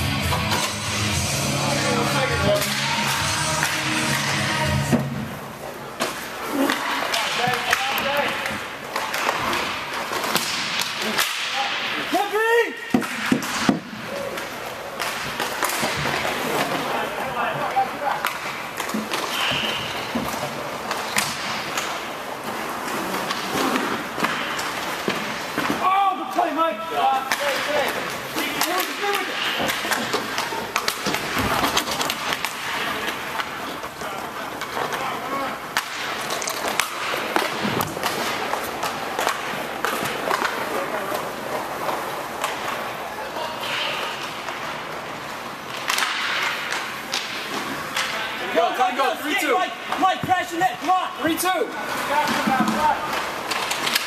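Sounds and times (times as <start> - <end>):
skate wheels rolling on floor: 0.0 - 11.2, 12.1 - 54.0
hockey sticks clacking: 0.0 - 54.0
players' voices: 0.0 - 54.0.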